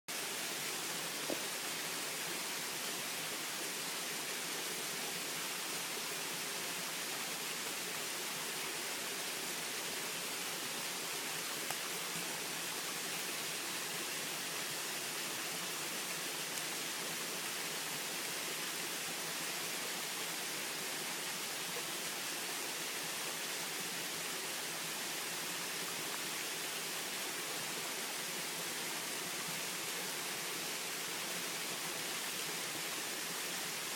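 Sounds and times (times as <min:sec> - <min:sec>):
small waterfall splashing: 0:00.1 - 0:33.9.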